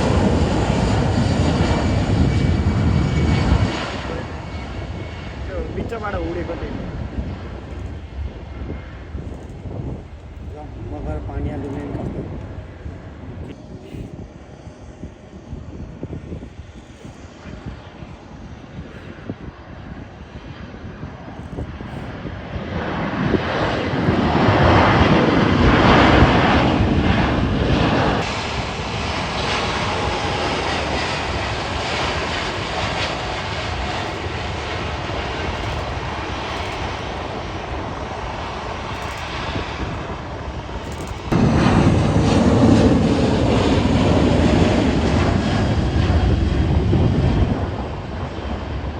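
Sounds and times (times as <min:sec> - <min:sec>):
jet airliner engines roaring: 0:00.0 - 0:48.9.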